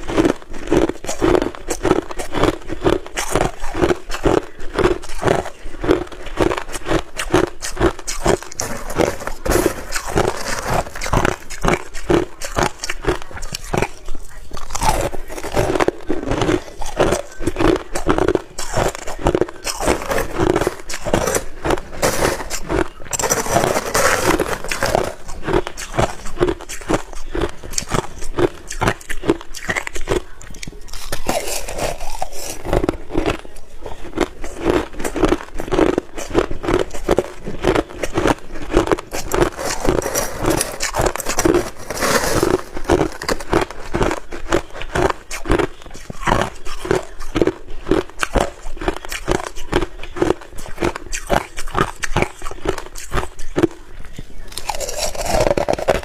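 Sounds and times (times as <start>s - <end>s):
person crunching ice: 0.0s - 53.8s, 54.4s - 56.0s.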